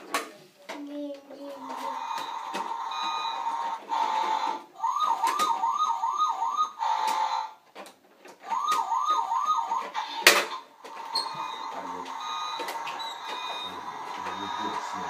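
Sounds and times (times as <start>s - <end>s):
toy electronic siren: 1.6s - 7.6s, 8.4s - 15.0s.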